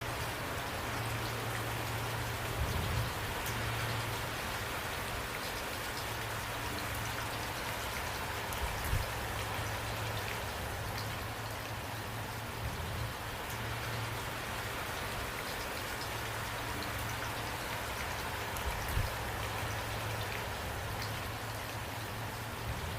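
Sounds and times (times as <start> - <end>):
rain pattering: 0.0 - 22.9.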